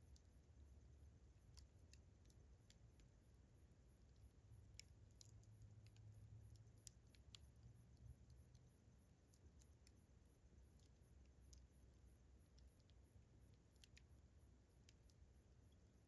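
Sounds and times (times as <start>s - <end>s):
crickets chirping: 2.6s - 16.0s.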